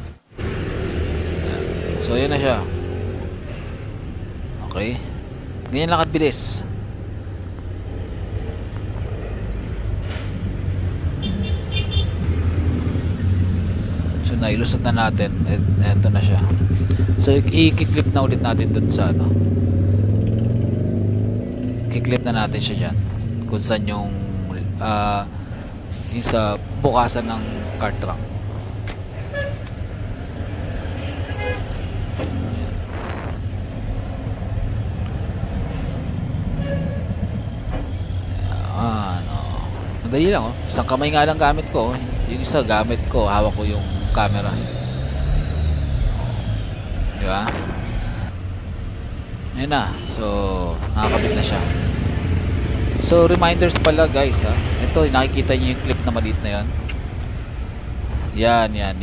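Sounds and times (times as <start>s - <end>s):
low vehicle rumble: 0.0s - 59.0s.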